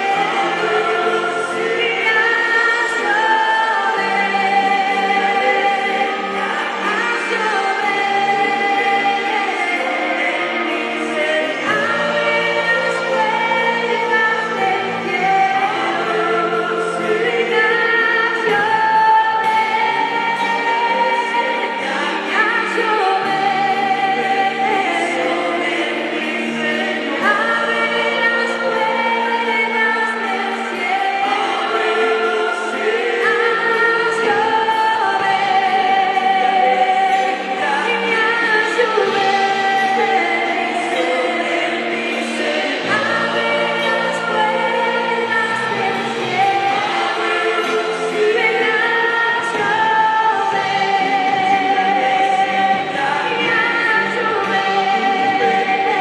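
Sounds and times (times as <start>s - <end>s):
group singing gospel song: 0.0s - 56.0s.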